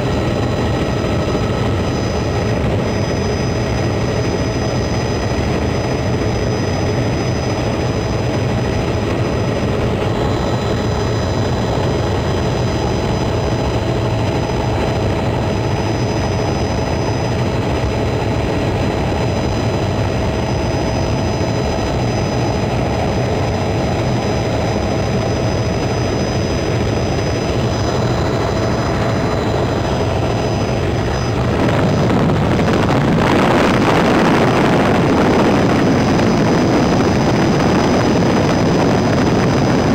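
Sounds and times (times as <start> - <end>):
helicopter engine and rotor drone: 0.0 - 39.9
helicopter whining tones: 0.0 - 39.9.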